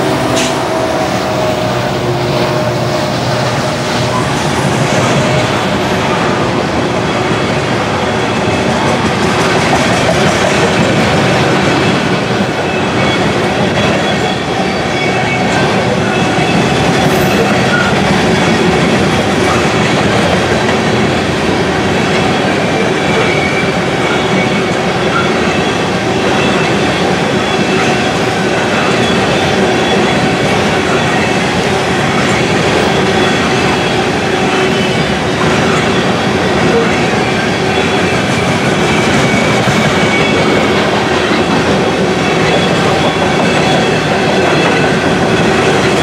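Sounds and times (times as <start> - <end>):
train wheels rumbling and clattering: 0.0 - 46.0.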